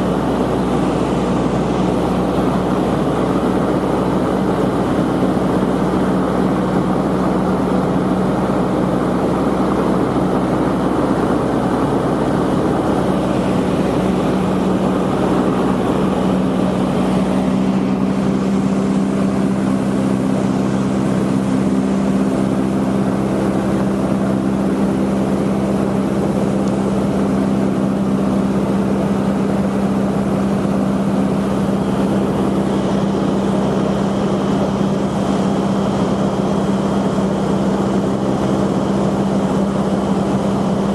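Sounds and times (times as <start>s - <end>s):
light aircraft engine droning: 0.0s - 40.9s.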